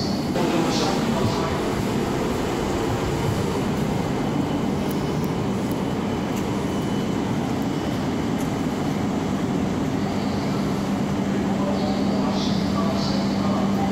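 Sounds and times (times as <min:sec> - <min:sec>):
train hum and rumble: 0:00.0 - 0:13.9.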